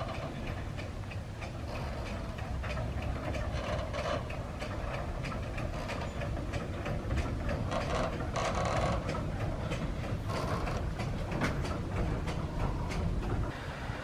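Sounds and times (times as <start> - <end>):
wheels clicking and knocking: 0.0 - 13.6
rail vehicle rumbling: 0.0 - 14.0.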